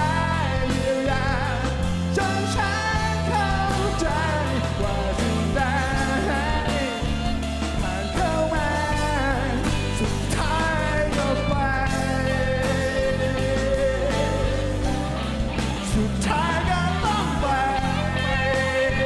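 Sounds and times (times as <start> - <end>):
man singing: 0.0 - 19.0
rock band playing: 0.0 - 19.0.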